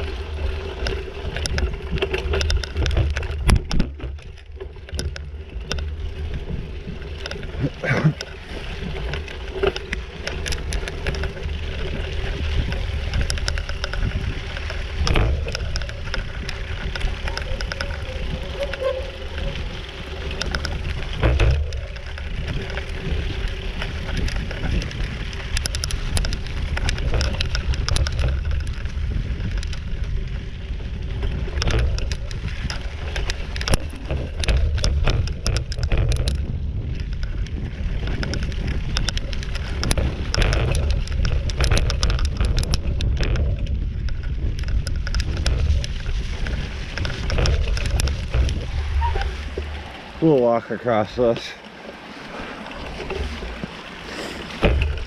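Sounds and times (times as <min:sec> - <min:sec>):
bicycle rattling on rough trail: 0:00.0 - 0:55.0.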